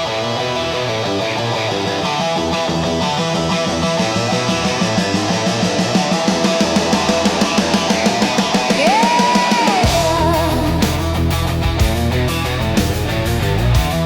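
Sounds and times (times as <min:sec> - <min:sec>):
sliding high guitar note: 0:00.0 - 0:13.2
hard rock music with electric guitar: 0:00.0 - 0:14.0.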